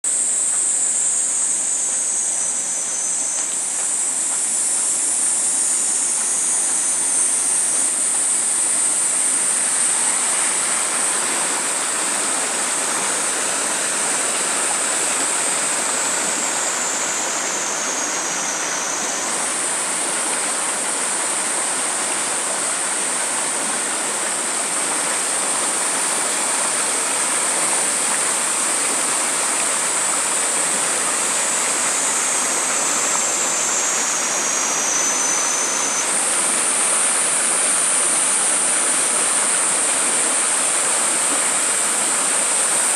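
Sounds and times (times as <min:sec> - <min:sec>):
bright high hiss: 0:00.0 - 0:42.9
stream rushing over rocks: 0:00.1 - 0:42.9.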